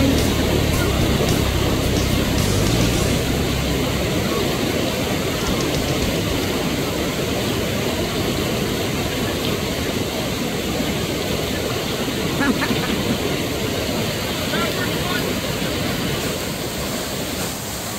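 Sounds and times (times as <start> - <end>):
whitewater rapids rushing: 0.0 - 17.9.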